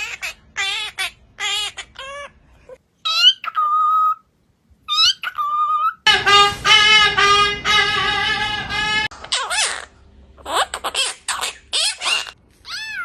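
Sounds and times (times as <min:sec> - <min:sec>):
parrot squawking: 0:00.0 - 0:02.4, 0:03.0 - 0:04.3, 0:04.9 - 0:13.0.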